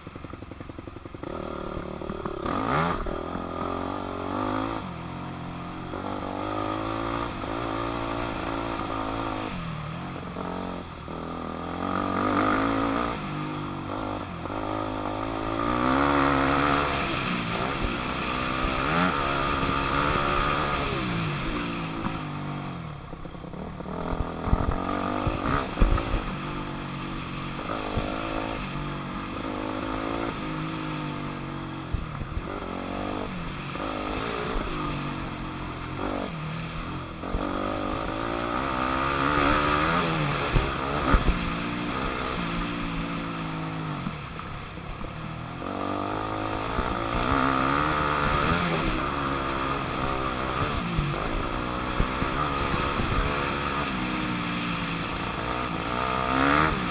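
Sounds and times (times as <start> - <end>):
dirt bike engine revving: 0.3 - 31.4, 32.2 - 44.2, 45.6 - 56.9.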